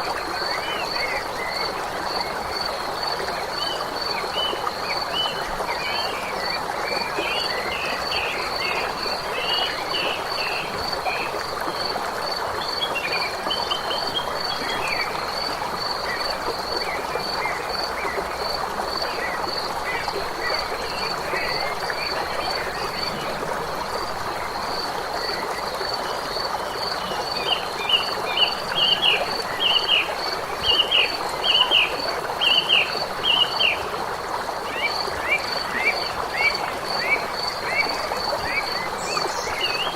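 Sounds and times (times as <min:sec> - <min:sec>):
frogs calling: 0:03.5 - 0:34.0, 0:34.6 - 0:39.9.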